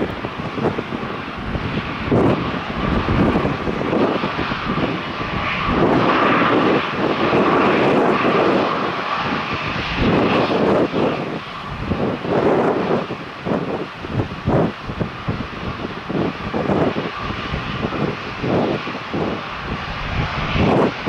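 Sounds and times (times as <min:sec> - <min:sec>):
airliner engines roaring: 0:00.0 - 0:21.0
wind buffeting microphone: 0:00.0 - 0:21.0.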